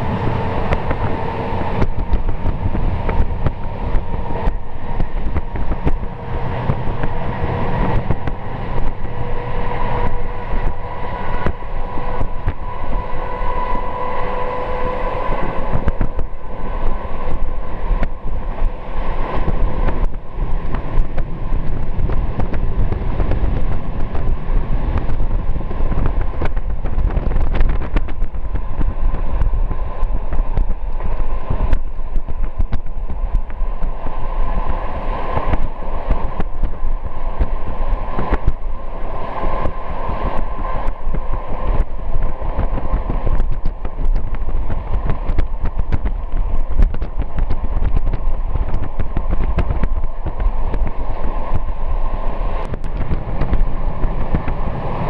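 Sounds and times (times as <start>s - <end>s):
steady high whine: 0.0s - 55.0s
train wheels rumbling on rails: 0.0s - 55.0s
wind noise: 0.0s - 55.0s.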